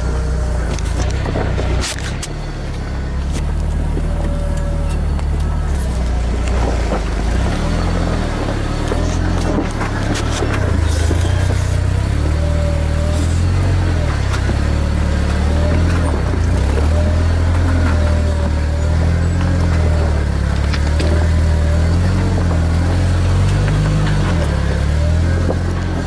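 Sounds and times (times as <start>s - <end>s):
car engine running at low revs: 0.0s - 26.0s
rocks clicking under tyres: 0.0s - 26.0s.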